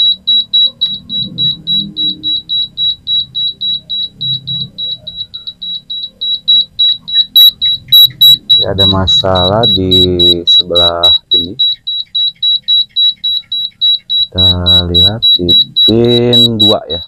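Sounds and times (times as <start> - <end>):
rice cooker buzzer beeping: 0.0 - 17.0.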